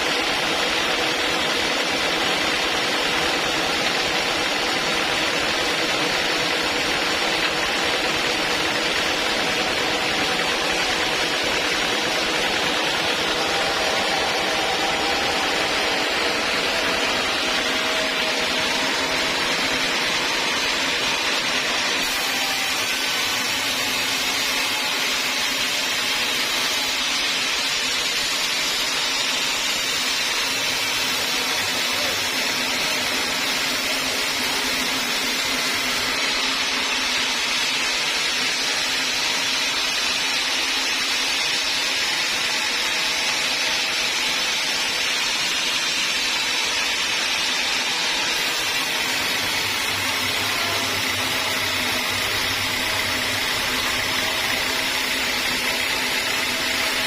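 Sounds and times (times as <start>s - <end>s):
sawmill machinery hiss and whine: 0.0s - 57.0s.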